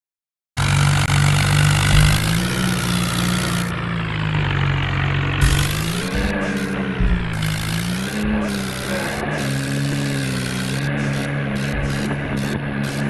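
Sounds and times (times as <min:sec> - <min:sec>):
diesel tractor engine running: 0:00.6 - 0:13.0.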